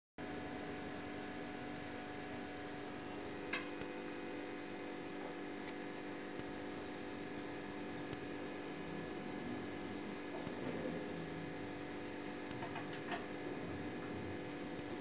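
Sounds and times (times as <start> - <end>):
electrical hum: 0.2 - 15.0.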